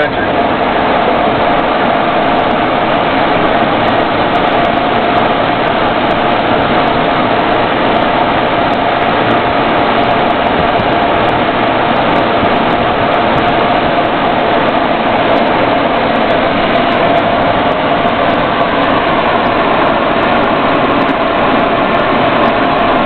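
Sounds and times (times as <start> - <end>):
constant droning note: 0.0 - 23.0
vehicle engine and road noise: 0.0 - 23.0.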